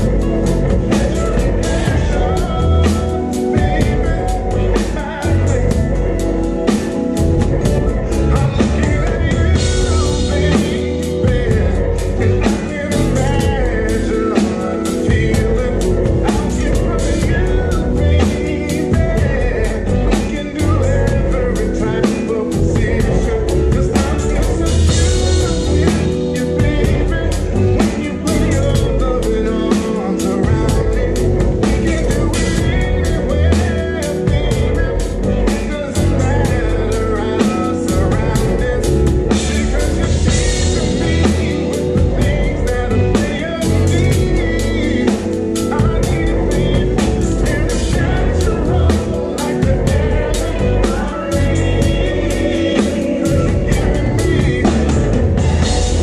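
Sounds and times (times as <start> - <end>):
drum kit played loud: 0.0 - 56.0
guitar: 0.0 - 56.0
live band music: 0.0 - 56.0
person singing: 0.0 - 56.0.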